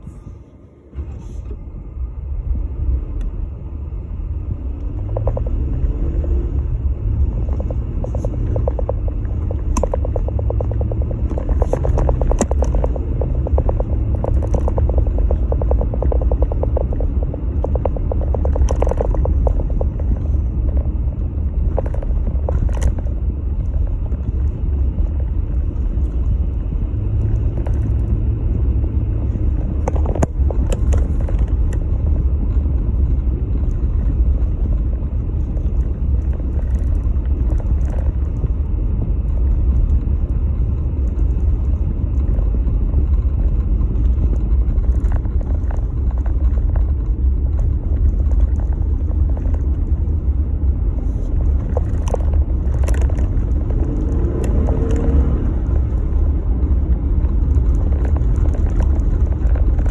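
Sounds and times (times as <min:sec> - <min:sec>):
vehicle engine rumble: 0:00.0 - 0:59.9.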